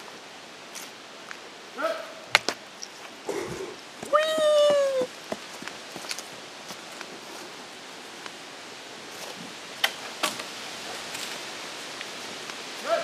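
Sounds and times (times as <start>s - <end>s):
outdoor hiss: 0.0s - 13.0s.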